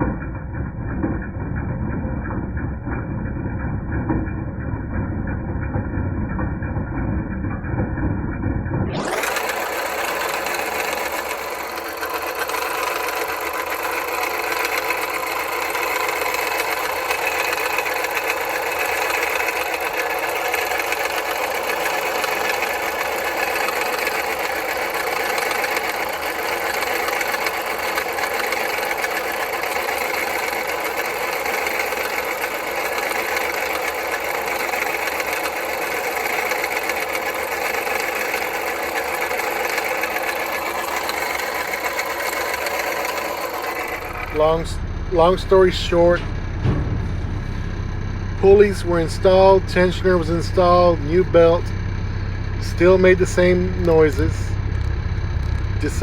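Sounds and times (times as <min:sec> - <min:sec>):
car engine running: 0:00.0 - 0:56.0
rhythmic metallic clanking: 0:00.0 - 0:56.0.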